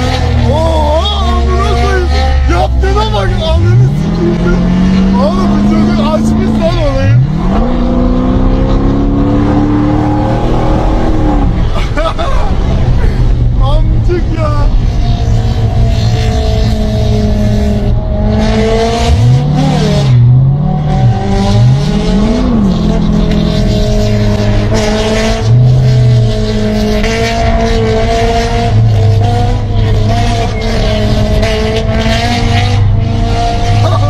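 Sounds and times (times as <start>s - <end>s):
sports car engine at high revs: 0.0s - 34.0s.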